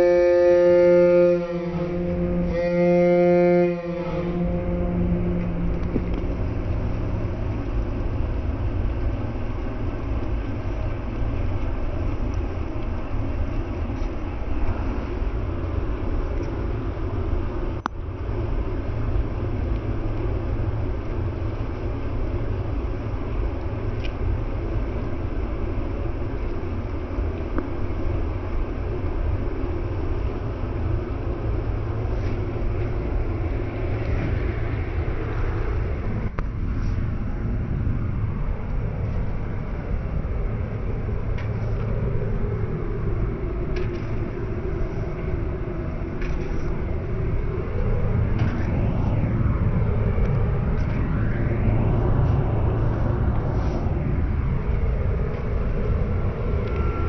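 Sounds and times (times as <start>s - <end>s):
train engine rumbling: 0.0s - 57.0s.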